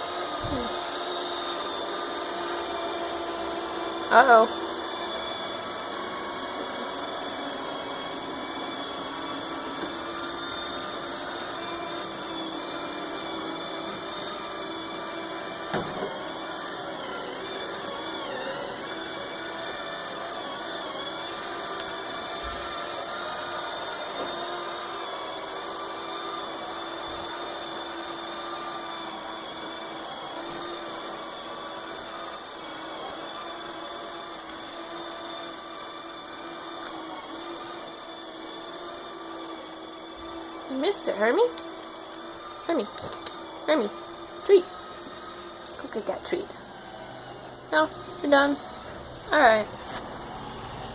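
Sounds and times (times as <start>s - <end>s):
robot vacuum whirring: 0.0s - 50.9s.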